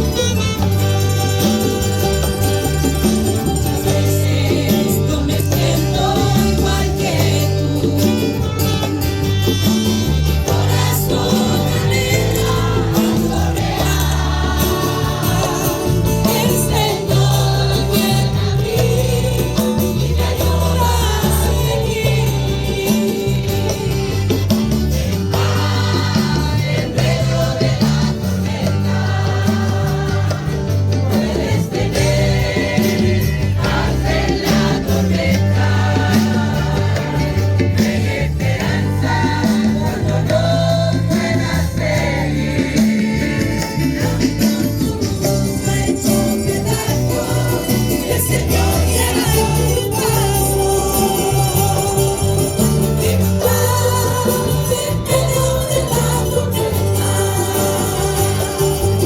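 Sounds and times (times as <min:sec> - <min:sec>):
band accompaniment with bass: 0:00.0 - 0:59.0
group singing gospel song: 0:00.0 - 0:59.0
tambourine: 0:00.0 - 0:59.0.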